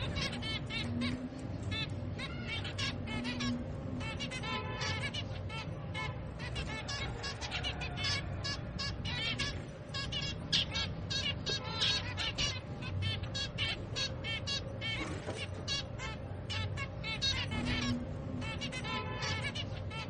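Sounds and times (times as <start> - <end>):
finch chicks begging calls: 0.0 - 20.0.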